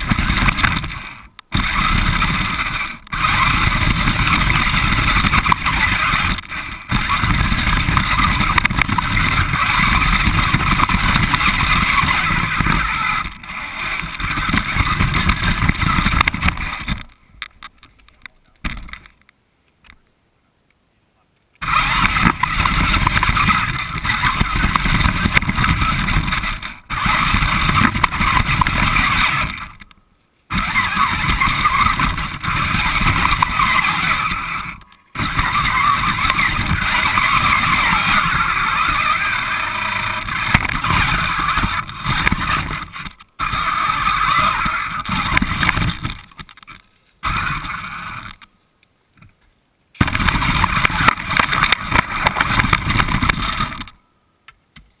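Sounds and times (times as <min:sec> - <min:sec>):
motor and gears whining: 0:00.0 - 0:17.2, 0:21.6 - 0:29.9, 0:30.5 - 0:48.5, 0:50.0 - 0:54.0
wheels rumbling on rough ground: 0:00.0 - 0:20.0, 0:21.6 - 0:48.6, 0:49.2 - 0:54.0.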